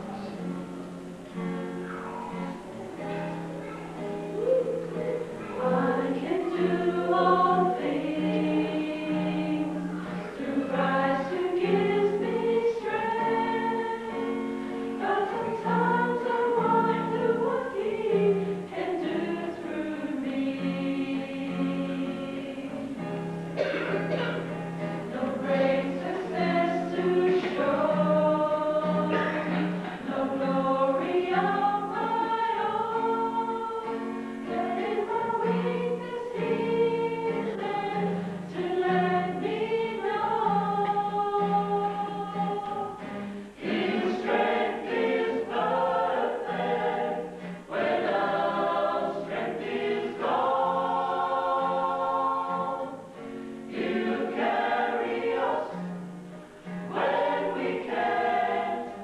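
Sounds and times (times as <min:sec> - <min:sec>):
mixed choir singing gospel: 0:02.3 - 0:59.0.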